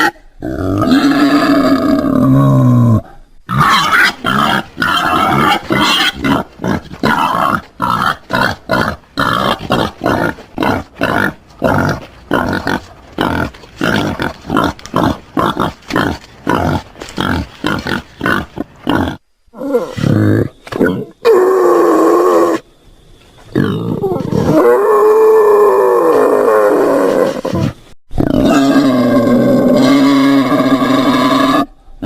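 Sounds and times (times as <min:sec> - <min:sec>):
wild boar grunting and squealing: 0:00.0 - 0:22.6, 0:23.5 - 0:31.7.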